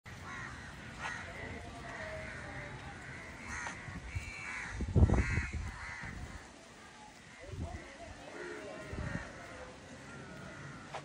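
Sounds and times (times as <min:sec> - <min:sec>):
birds calling: 0:00.1 - 0:11.0.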